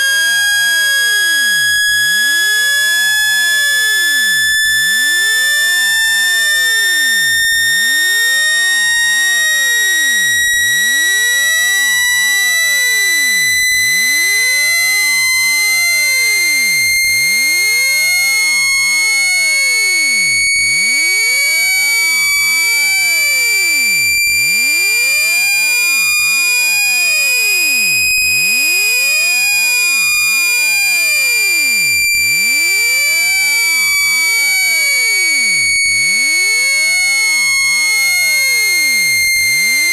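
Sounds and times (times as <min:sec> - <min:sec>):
shrill buzzy electronic tone: 0:00.0 - 0:39.9.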